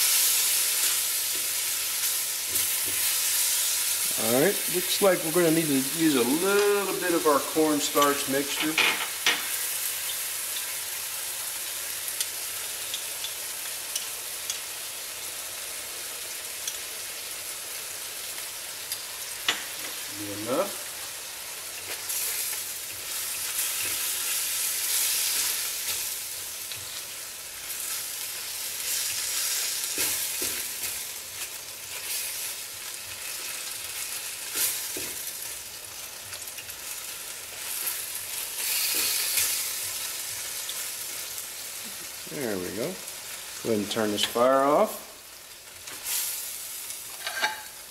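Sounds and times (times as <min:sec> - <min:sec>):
food sizzling in a wok: 0:00.0 - 0:47.9.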